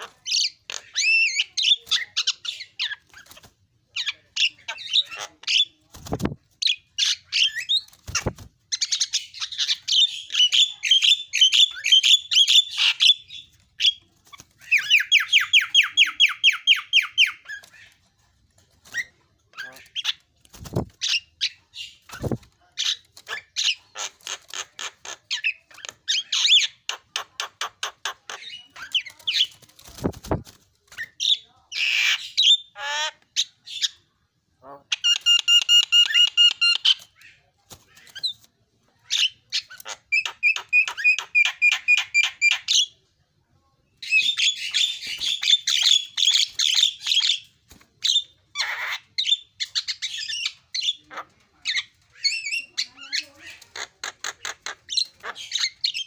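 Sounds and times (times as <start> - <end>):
myna bird chattering and squawking: 0.0 - 18.1, 18.8 - 43.0, 44.0 - 56.0.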